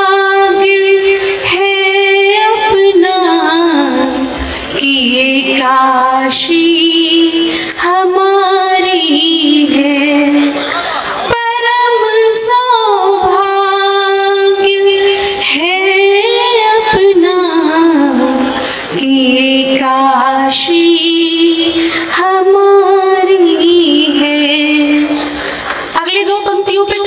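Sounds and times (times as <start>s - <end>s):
woman singing into microphone: 0.0s - 27.0s.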